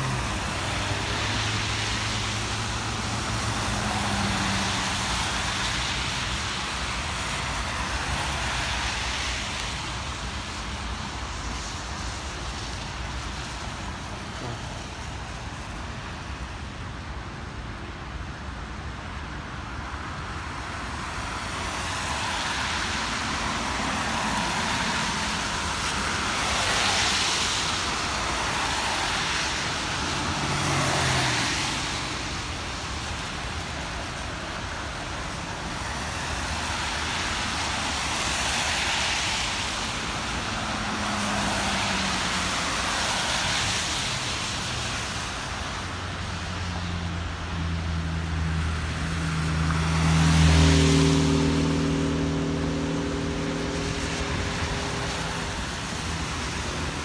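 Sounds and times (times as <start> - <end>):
car tyres hissing on wet road: 0.0 - 18.2, 19.7 - 57.0.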